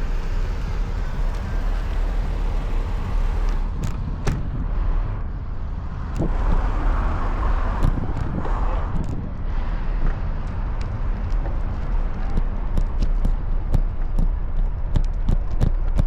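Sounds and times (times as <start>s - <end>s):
bicycle riding noise: 0.0s - 16.0s
road traffic rumble: 0.0s - 16.0s.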